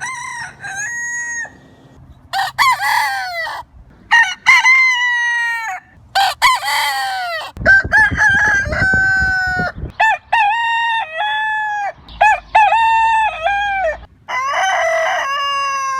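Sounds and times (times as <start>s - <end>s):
roosters crowing: 0.0s - 15.9s.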